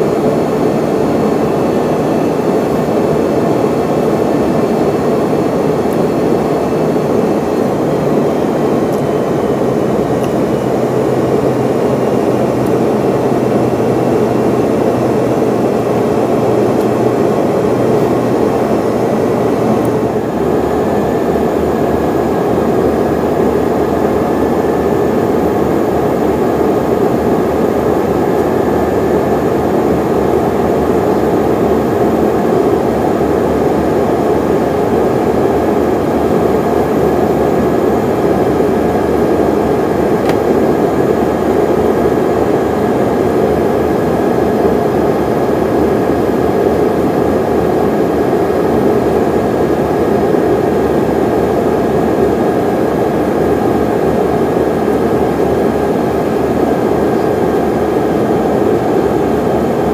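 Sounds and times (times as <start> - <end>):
aircraft cabin engine roar: 0.0 - 59.9.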